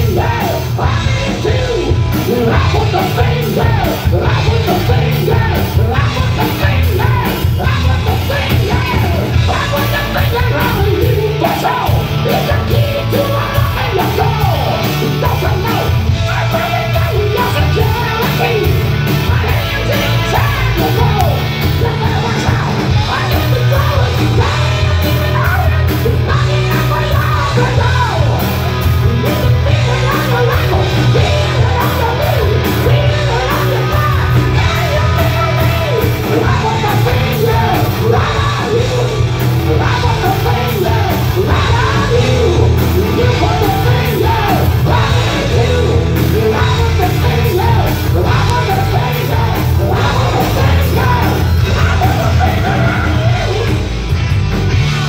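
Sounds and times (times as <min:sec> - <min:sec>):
live rock band: 0:00.0 - 0:55.0
man singing and yelling: 0:00.0 - 0:55.0.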